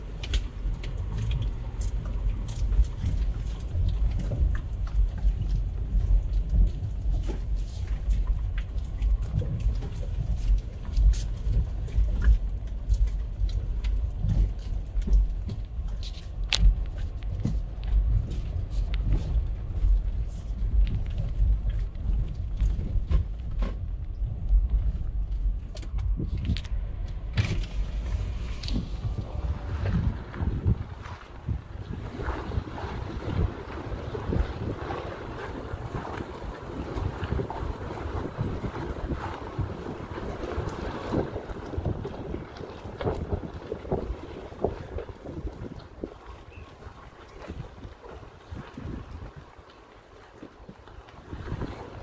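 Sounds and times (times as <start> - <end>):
suspension knocks and rattles: 0.0 - 46.2
vehicle tyres rumbling: 0.0 - 52.0.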